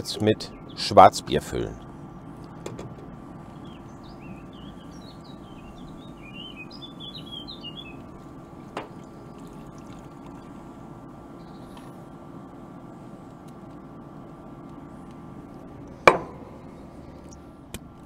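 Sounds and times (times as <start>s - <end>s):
small birds chirping: 0.0s - 17.6s
steady low hum: 0.0s - 18.0s.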